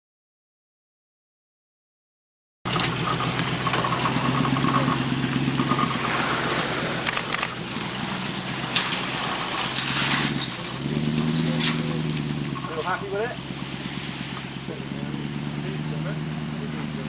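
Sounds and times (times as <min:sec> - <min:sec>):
off-road vehicle engine running: 0:02.7 - 0:17.0
tyres crunching over loose stone: 0:02.7 - 0:17.0.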